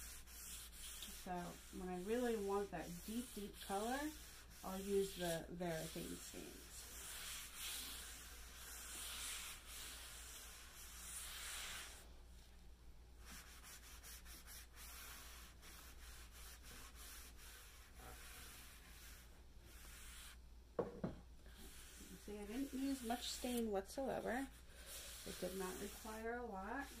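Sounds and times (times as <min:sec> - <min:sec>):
paper towel swishing on wood: 0:00.0 - 0:12.1, 0:13.2 - 0:20.4, 0:21.5 - 0:27.0.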